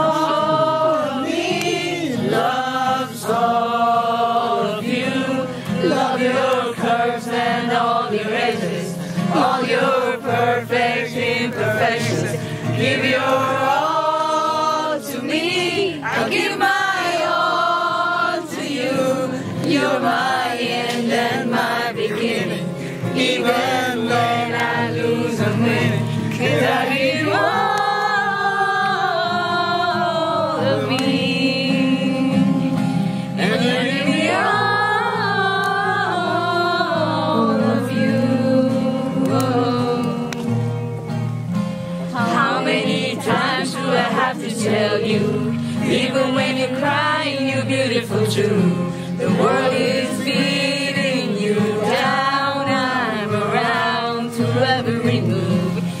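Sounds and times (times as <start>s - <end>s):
group of people singing: 0.0s - 40.7s, 42.0s - 56.0s.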